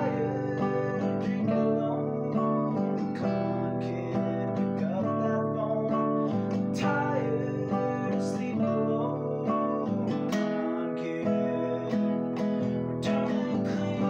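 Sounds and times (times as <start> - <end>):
classical guitar strummed: 0.0 - 14.0
man singing: 0.0 - 14.0.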